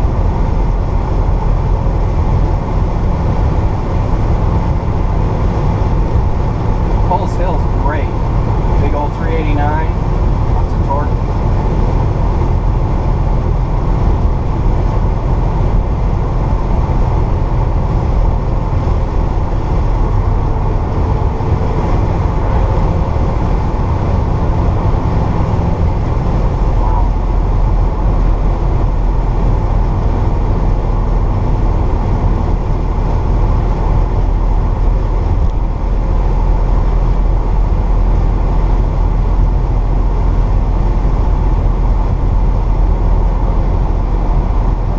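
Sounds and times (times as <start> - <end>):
car engine running: 0.0 - 44.9
road and tyre noise: 0.0 - 44.9.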